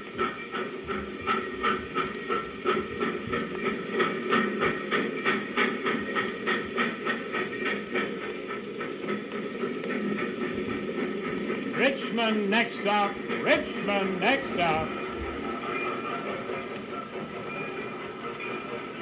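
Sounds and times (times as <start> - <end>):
steam train chuffing and clattering: 0.0 - 19.0.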